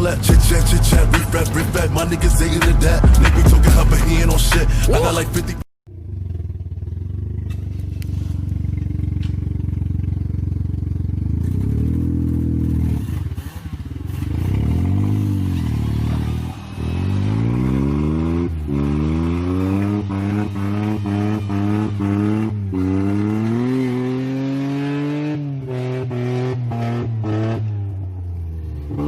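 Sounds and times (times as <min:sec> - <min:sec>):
car engine revving: 0:00.0 - 0:05.7, 0:06.4 - 0:29.0.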